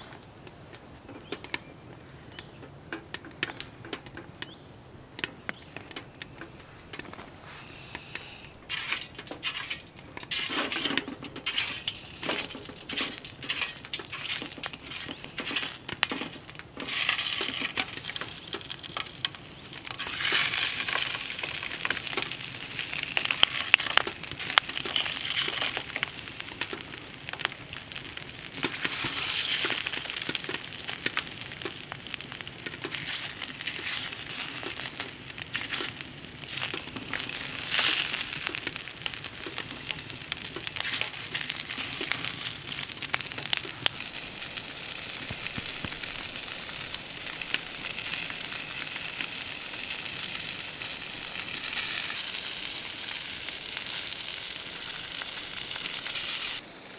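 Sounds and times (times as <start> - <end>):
crackles: 0.0 - 56.9
sausages sizzling in a pan: 7.4 - 56.9.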